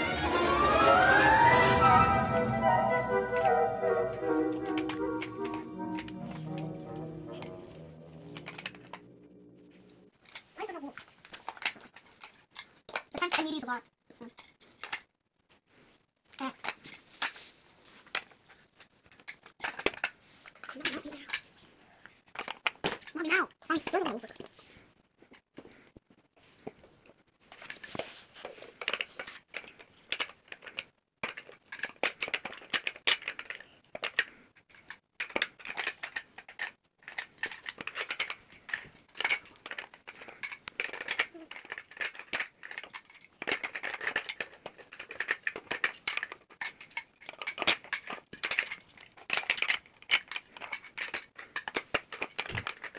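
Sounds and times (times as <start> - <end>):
plastic puzzle pieces clicking: 4.2 - 9.1, 10.2 - 13.7, 14.3 - 15.1, 16.4 - 24.5, 27.5 - 52.9.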